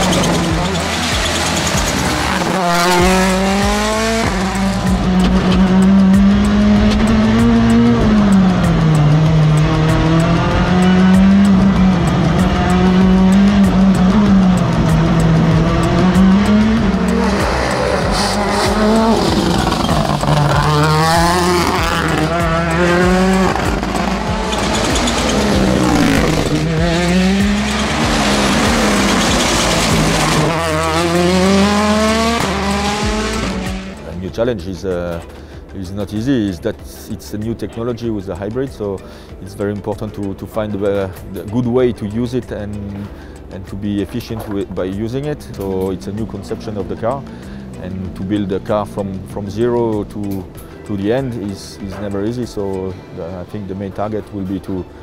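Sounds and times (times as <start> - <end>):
rally car engine revving: 0.0 - 35.3, 42.6 - 55.0.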